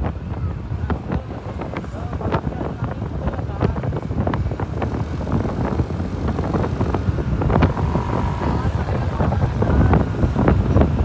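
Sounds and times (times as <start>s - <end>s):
vehicle running on road: 0.0s - 11.0s
wind buffeting microphone: 0.0s - 11.0s.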